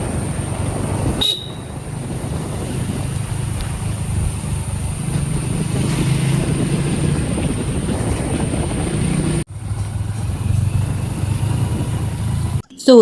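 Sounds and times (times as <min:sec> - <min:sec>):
scooter engine drone: 0:00.0 - 0:12.6
wind buffeting microphone: 0:00.0 - 0:12.6.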